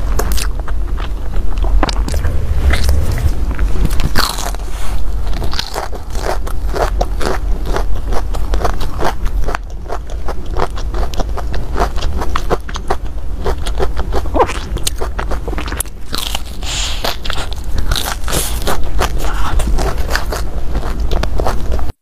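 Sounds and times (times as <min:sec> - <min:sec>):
crunching and chewing snack: 0:00.0 - 0:02.9, 0:03.8 - 0:22.0.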